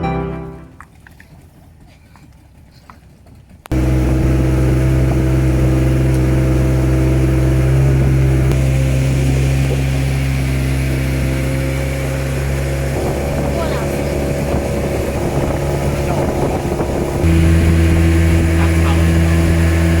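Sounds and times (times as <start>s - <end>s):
motorboat engine running: 0.0s - 20.0s
water and wind hiss: 3.7s - 20.0s.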